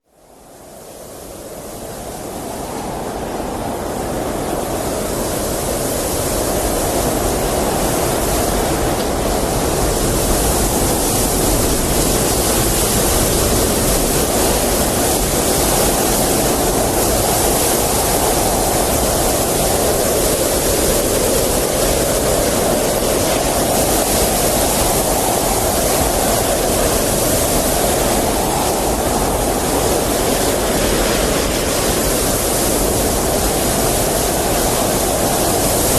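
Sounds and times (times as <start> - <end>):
blizzard wind rushing: 0.2 - 35.9.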